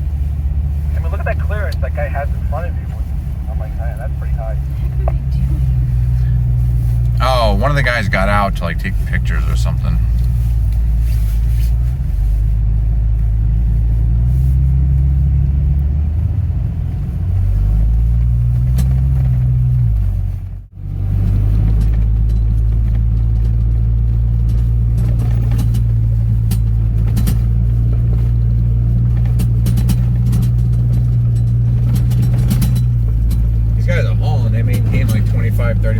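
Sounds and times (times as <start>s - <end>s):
engine droning inside vehicle: 0.0s - 35.9s.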